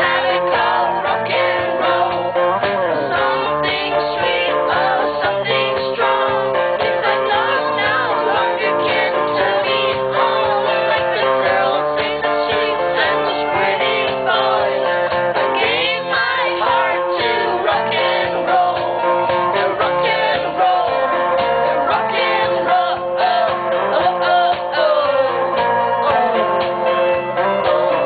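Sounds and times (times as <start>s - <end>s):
woman singing rock and roll: 0.0s - 26.7s
strummed guitar: 0.0s - 28.0s.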